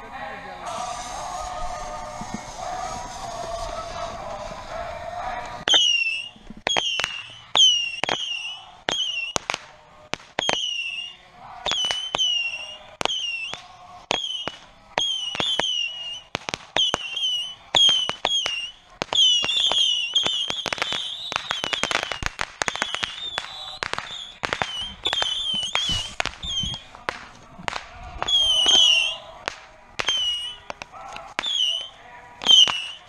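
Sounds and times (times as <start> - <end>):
fireworks popping and banging: 0.7 - 4.8, 5.4 - 33.0
whistling rockets: 0.7 - 5.0, 5.6 - 33.0.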